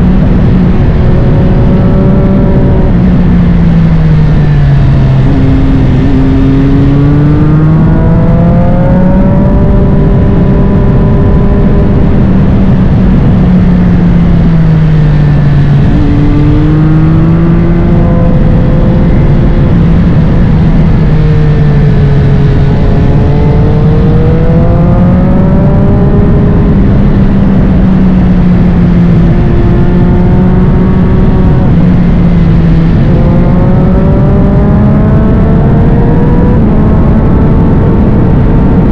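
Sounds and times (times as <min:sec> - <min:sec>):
constant rushing noise: 0:00.0 - 0:38.9
motorcycle engine revving: 0:00.0 - 0:38.9.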